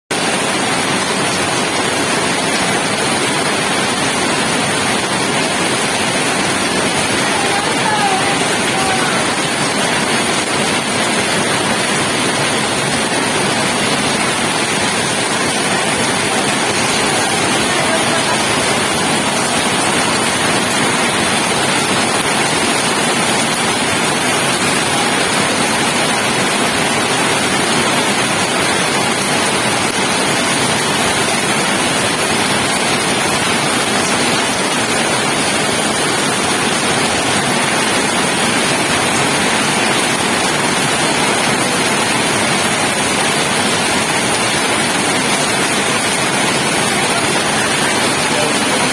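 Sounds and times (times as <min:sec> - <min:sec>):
steady rain hiss: 0:00.2 - 0:48.9.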